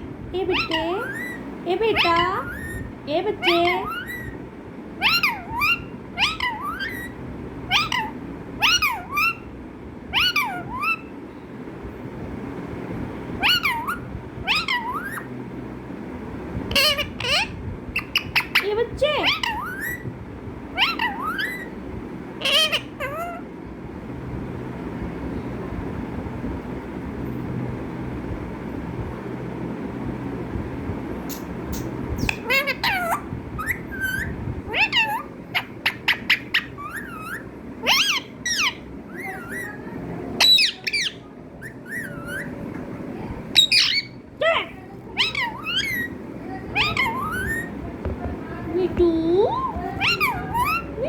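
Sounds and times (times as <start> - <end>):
low background hum: 0.0 - 51.0.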